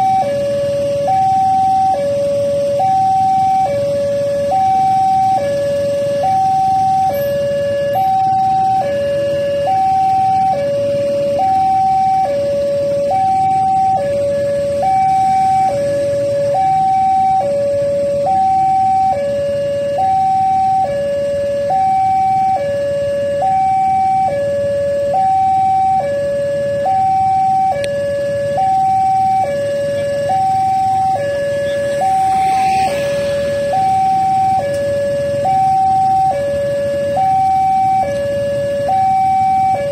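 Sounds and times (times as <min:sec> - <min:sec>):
low steady rumble: 0:00.0 - 0:39.9
two-tone electronic warning signal: 0:00.0 - 0:39.9.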